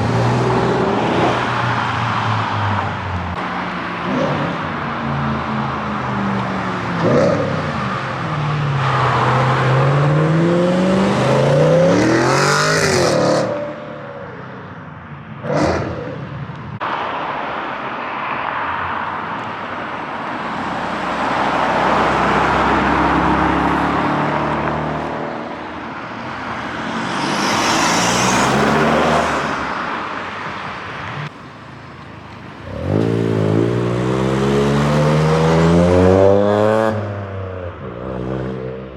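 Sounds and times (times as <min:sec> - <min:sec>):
car engines revving past: 0:00.0 - 0:14.0, 0:15.4 - 0:38.9.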